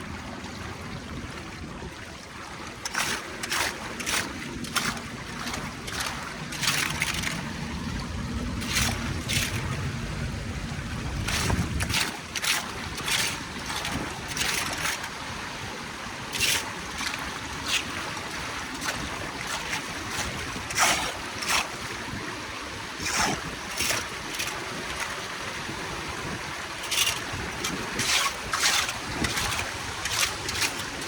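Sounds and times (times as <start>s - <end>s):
short water splashes: 0.0s - 31.0s
water running steadily: 0.0s - 31.0s.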